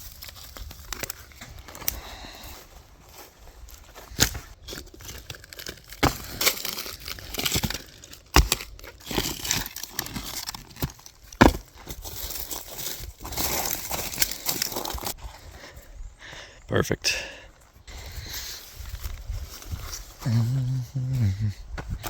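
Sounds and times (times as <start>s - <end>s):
crunching brush and leaves: 0.0s - 16.0s, 17.7s - 22.0s.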